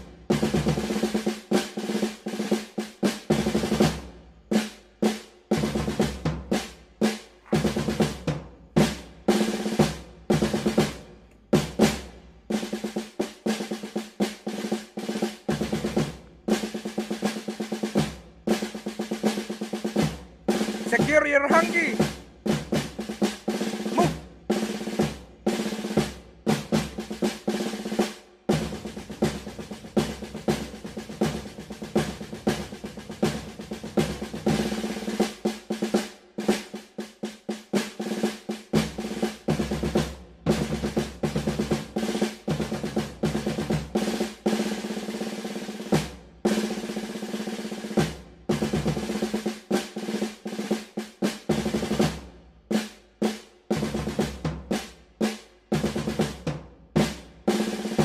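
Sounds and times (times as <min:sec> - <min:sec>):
snare drum rolls: 0:00.0 - 0:58.0.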